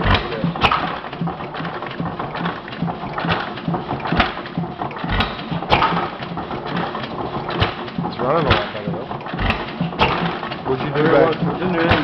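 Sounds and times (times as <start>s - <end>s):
engine firing thumps: 0.0s - 12.0s
engine mechanical clatter: 0.0s - 12.0s.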